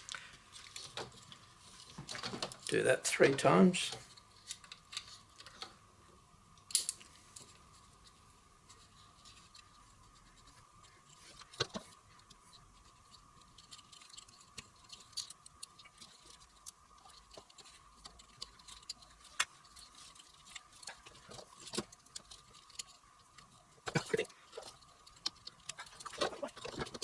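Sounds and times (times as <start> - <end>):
faint steady whine: 0.0 - 27.0.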